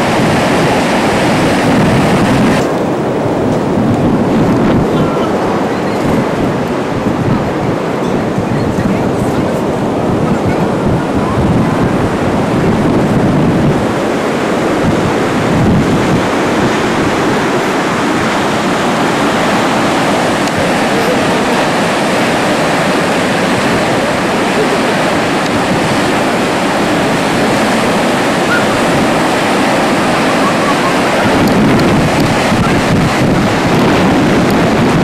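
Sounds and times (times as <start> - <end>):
river rapids and waterfall rushing: 0.0 - 35.0
wind buffeting microphone: 0.0 - 35.0.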